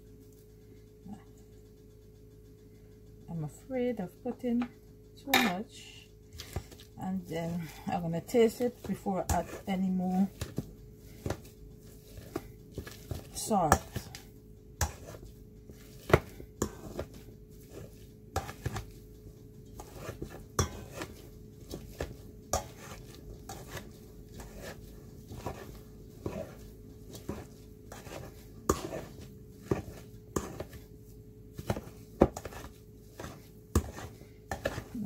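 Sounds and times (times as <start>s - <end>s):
potato squelches: 6.3s - 35.0s.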